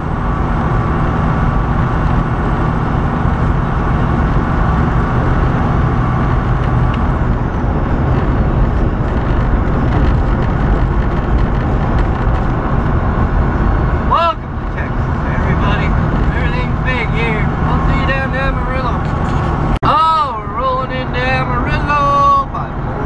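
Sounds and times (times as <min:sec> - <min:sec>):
diesel truck engine: 0:00.0 - 0:23.0
road noise: 0:00.0 - 0:23.0.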